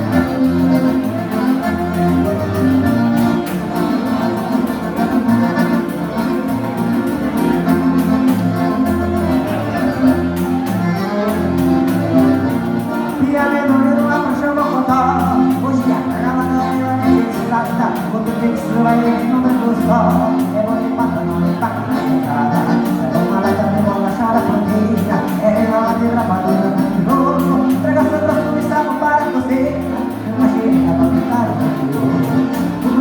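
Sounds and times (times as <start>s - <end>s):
accordion dance music: 0.0s - 33.0s.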